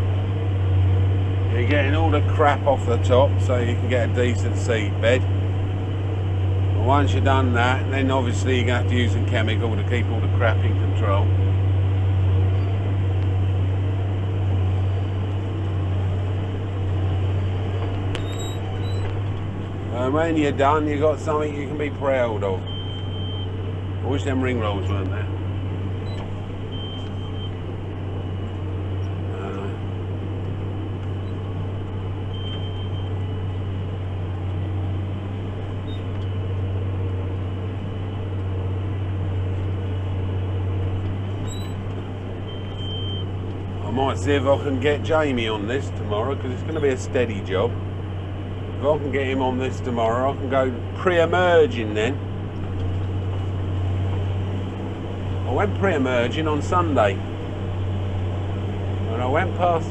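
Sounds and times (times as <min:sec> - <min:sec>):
tractor engine droning under load: 0:00.0 - 0:59.9.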